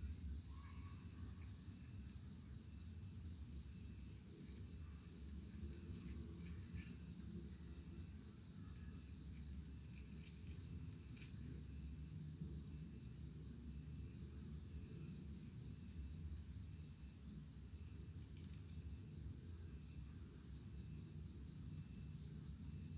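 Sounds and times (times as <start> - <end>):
cricket chirping: 0.0 - 22.9.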